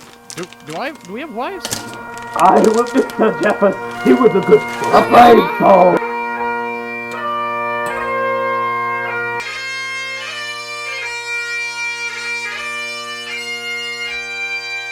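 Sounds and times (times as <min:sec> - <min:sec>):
bagpipe music: 0:00.0 - 0:14.9.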